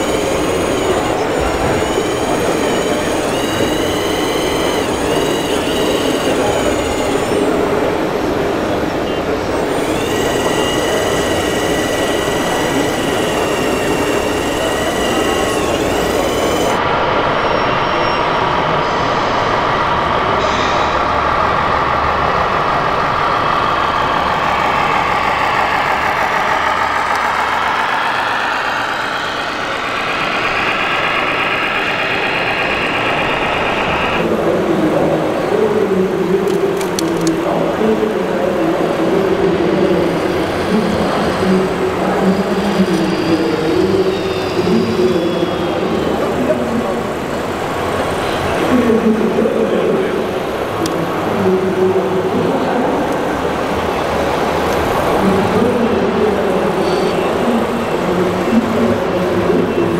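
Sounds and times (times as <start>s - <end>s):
toy truck engine running: 0.0s - 17.0s, 19.6s - 59.9s
model excavator high whine: 0.0s - 59.9s
noisy hall background: 0.0s - 59.9s.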